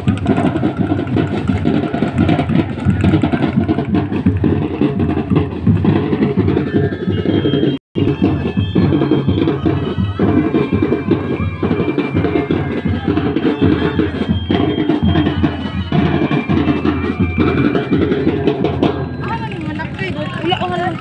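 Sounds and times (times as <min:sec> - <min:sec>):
music with drums and percussion: 0:00.0 - 0:21.0.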